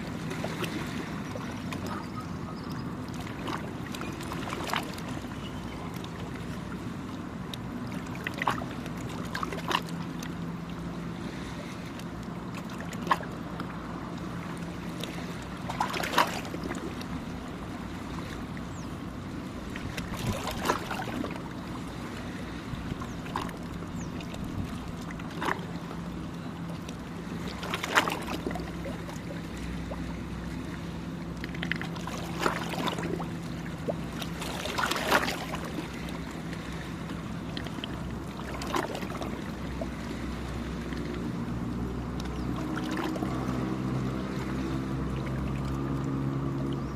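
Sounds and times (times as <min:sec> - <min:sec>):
low engine hum: 0:00.0 - 0:46.9
small waves lapping on shore: 0:00.0 - 0:46.9.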